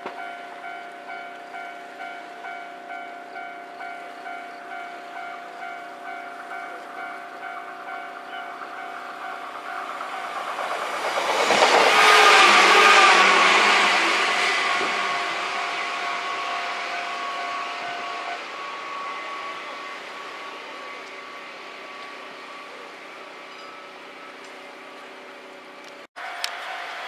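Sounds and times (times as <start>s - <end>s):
train passing on rails: 0.0s - 27.0s
train whine: 0.0s - 27.0s.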